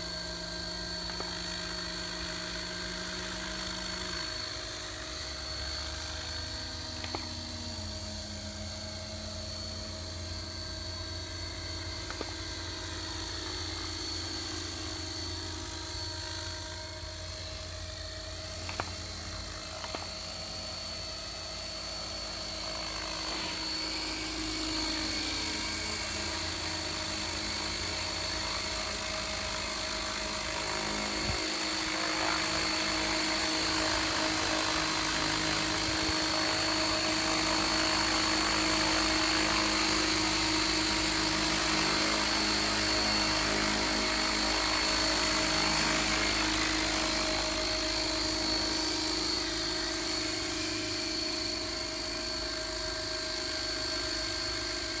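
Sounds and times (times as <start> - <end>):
model helicopter whine: 0.0 - 55.0.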